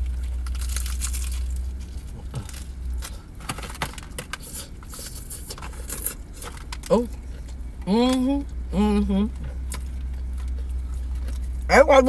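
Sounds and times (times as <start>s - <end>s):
crunching and chewing fried chicken: 0.0s - 11.7s
low hum: 0.0s - 12.0s.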